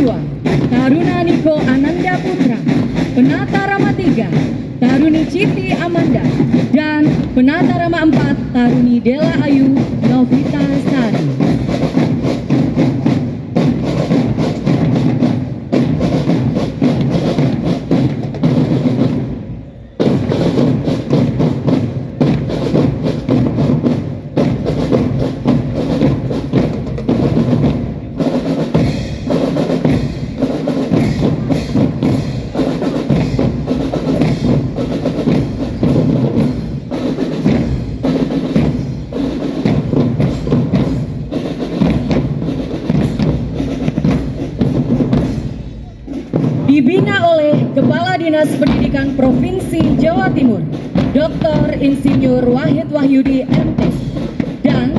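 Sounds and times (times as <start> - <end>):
marching drum band playing: 0.0 - 54.9.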